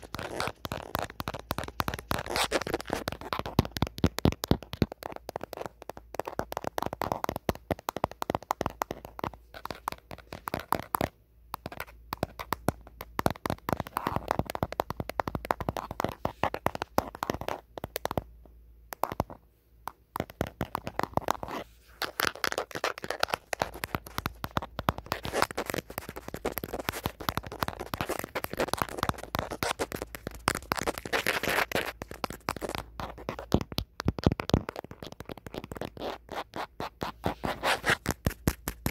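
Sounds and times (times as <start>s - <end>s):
fingernails tapping and scratching phone: 0.0s - 18.3s, 18.9s - 38.9s.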